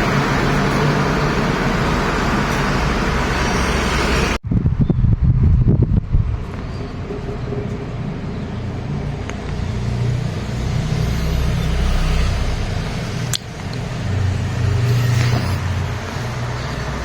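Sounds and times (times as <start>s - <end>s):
traffic engine rumble: 0.0s - 17.0s.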